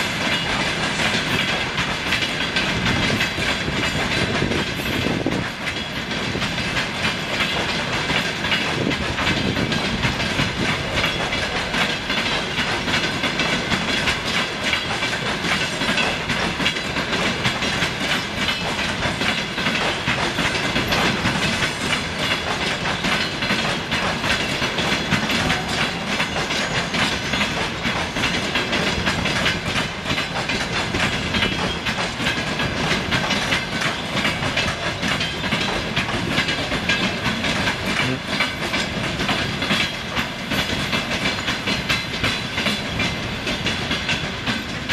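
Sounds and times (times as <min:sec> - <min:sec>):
train coaches rolling past: 0:00.0 - 0:44.9
wheels clicking over rail joints: 0:00.0 - 0:44.9.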